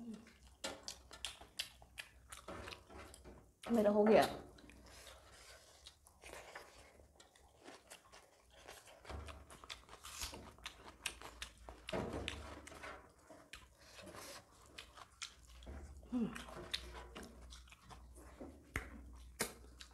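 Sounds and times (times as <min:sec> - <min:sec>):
chewing and lip smacks: 0:00.2 - 0:19.9.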